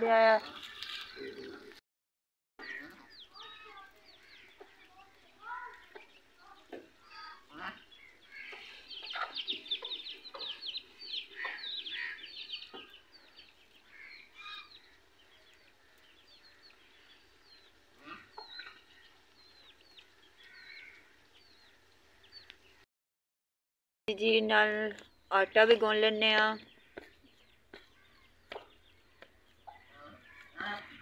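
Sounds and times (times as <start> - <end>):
birds chattering and chirping: 0.1 - 1.8, 2.6 - 22.8, 24.2 - 31.0.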